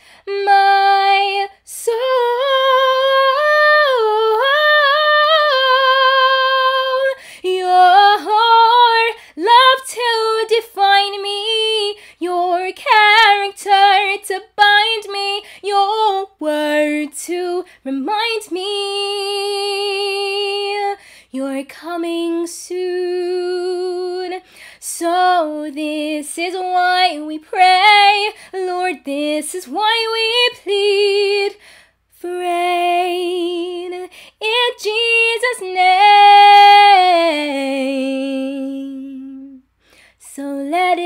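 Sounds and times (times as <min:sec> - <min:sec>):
woman singing: 0:00.0 - 0:41.0.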